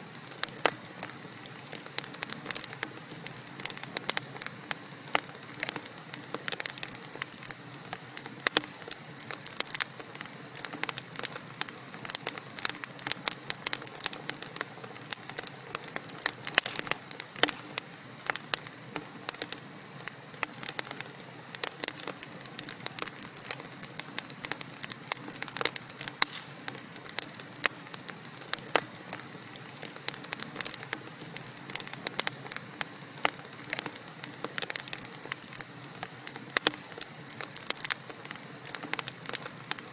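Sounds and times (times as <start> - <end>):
logs crackling and popping: 0.0 - 39.9
soft hiss of flames: 0.0 - 39.9.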